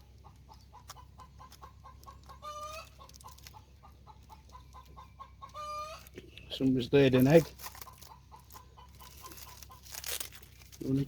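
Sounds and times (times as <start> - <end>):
hen clucking: 0.0 - 11.0.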